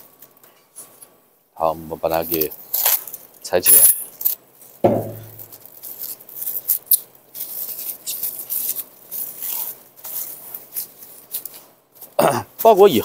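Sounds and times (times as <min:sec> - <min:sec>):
plastic cling film crinkling: 0:02.0 - 0:13.0.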